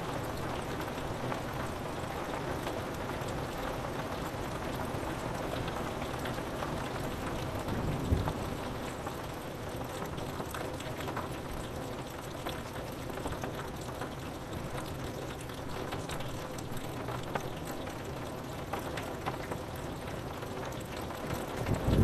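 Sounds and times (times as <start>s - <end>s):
rain drops tapping on glass: 0.1s - 22.0s.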